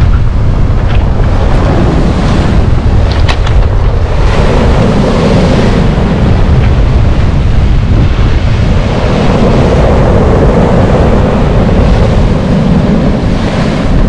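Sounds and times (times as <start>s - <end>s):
storm surf breaking on shore: 0.0s - 14.0s
wind buffeting microphone: 0.0s - 14.0s.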